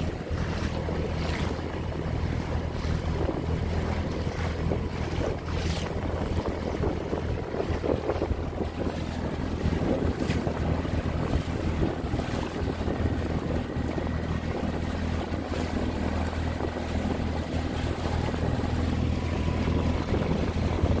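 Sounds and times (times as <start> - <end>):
outboard motor running: 0.0 - 21.0
water rushing along hull: 0.0 - 21.0
wind buffeting microphone: 0.0 - 21.0.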